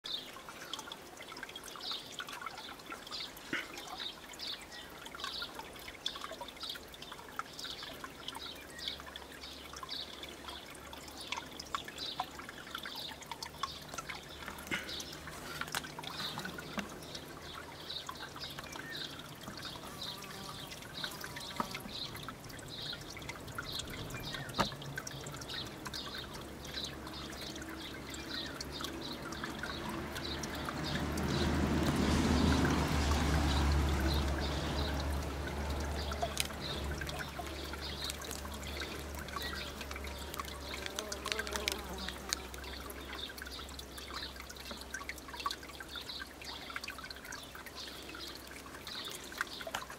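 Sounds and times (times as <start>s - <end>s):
water trickling into a pool: 0.0s - 49.9s.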